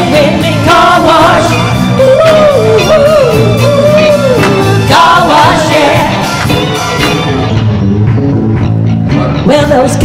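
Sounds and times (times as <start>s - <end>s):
live funk band playing: 0.0s - 10.0s.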